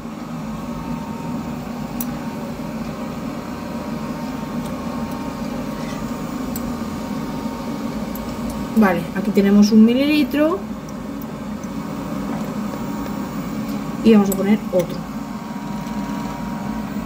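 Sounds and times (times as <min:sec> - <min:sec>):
household appliance humming: 0:00.0 - 0:17.0.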